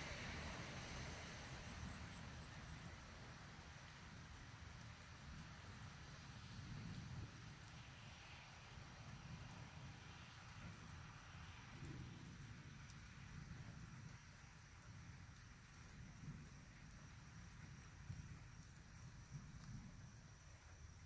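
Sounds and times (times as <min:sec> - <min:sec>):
faint low rumble: 0:00.0 - 0:21.0.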